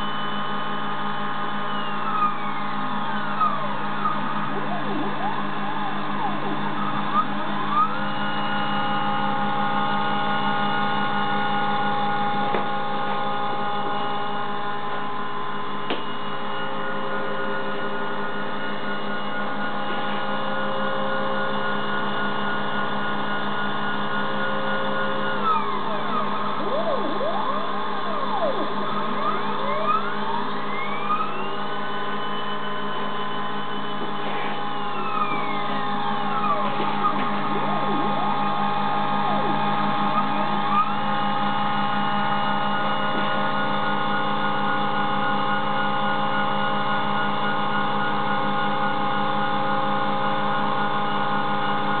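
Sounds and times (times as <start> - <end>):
steady motor hum: 0.0 - 52.0
stepper motors whining: 0.0 - 52.0.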